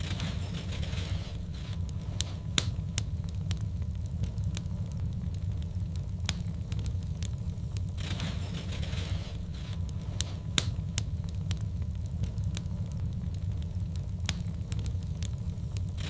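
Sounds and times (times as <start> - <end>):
sharp pops and snaps: 0.0 - 16.0
wood fire crackling: 0.0 - 16.0.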